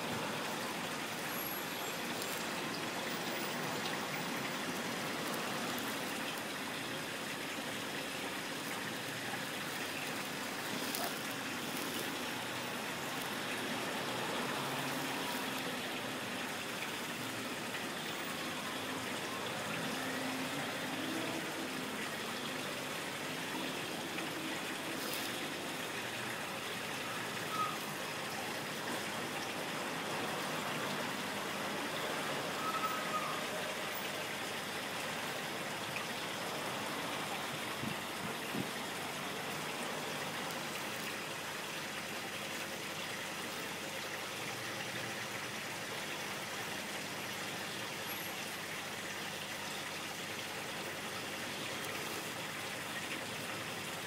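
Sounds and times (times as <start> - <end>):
aquarium water trickling: 0.0 - 54.0.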